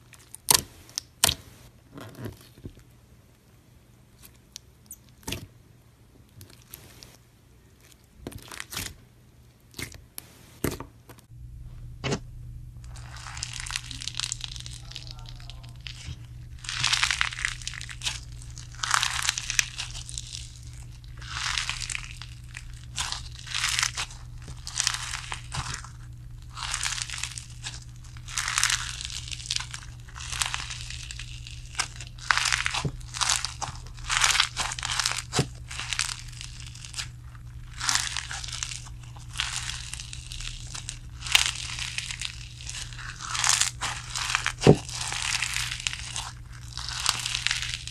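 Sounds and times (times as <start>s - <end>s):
crunchy slime crackles: 0.0s - 2.9s, 6.2s - 9.0s, 12.8s - 47.9s
steady low hum: 0.0s - 47.9s.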